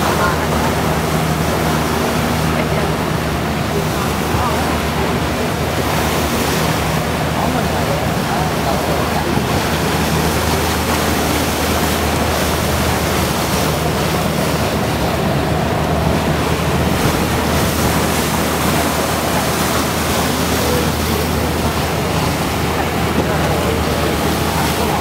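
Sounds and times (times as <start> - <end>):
rushing wind and sea spray: 0.0 - 25.0.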